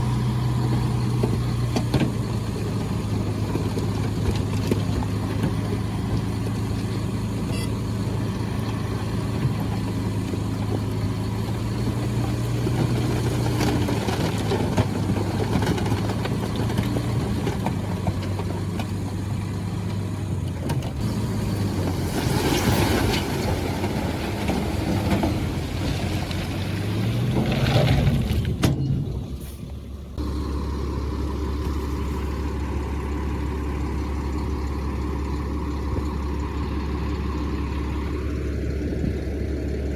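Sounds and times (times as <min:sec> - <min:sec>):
diesel construction machinery running: 0:00.0 - 0:39.9
low engine hum: 0:00.0 - 0:39.9.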